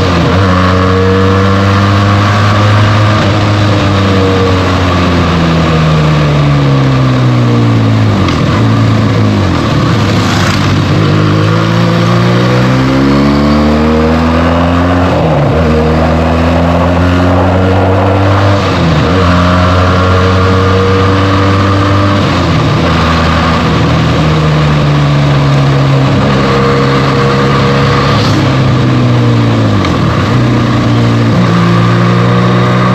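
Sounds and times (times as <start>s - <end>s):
motorcycle engine riding: 0.0s - 32.9s.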